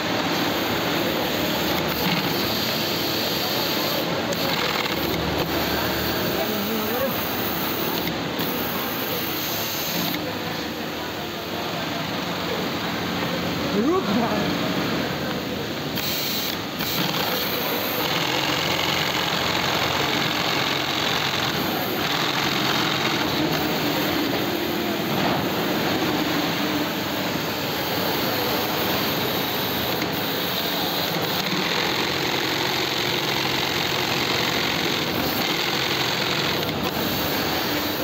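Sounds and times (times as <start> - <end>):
industrial sewing machine running: 0.0 - 10.6, 12.0 - 38.0
factory machinery hum: 0.0 - 38.0.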